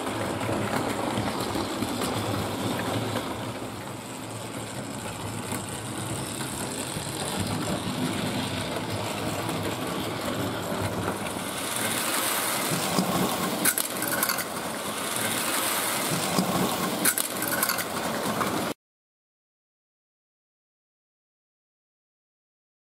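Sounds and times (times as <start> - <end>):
model train whirring rattle: 0.0 - 18.8.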